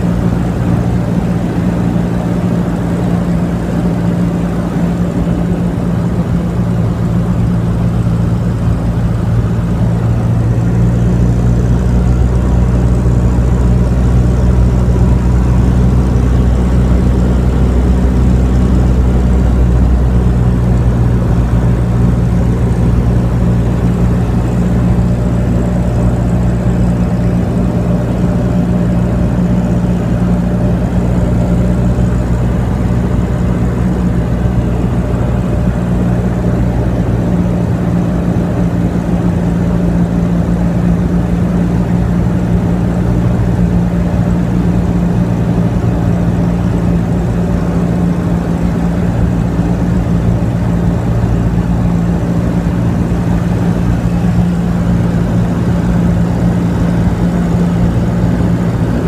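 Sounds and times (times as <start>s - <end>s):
aircraft engine drone in cabin: 0.0s - 59.0s.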